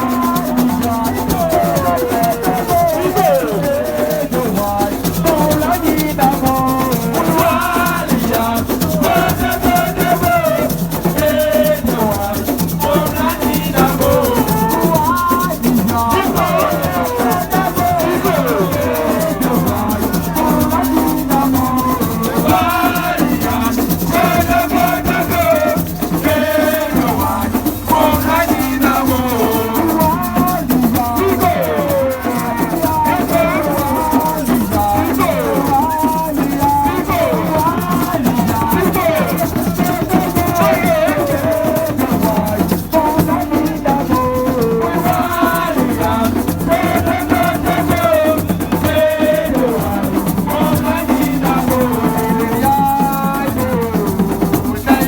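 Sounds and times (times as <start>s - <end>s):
rattle keeping the beat: 0.0s - 55.0s.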